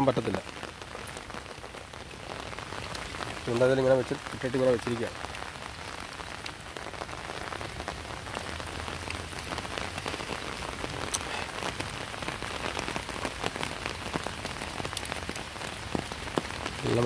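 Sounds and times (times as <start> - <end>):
heavy rain on water: 0.0 - 17.0.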